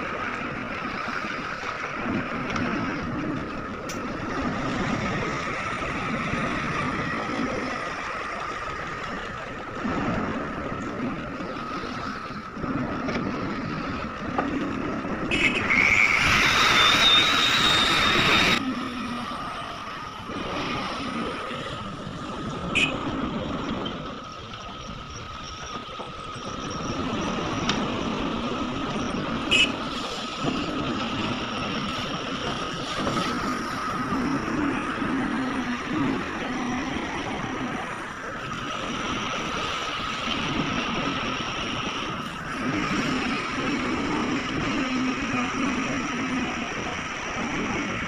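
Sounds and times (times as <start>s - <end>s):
earthmoving machinery running: 0.0s - 48.0s.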